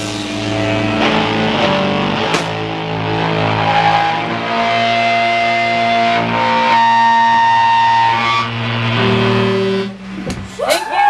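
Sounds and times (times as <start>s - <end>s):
distorted electric guitar: 0.0s - 10.5s.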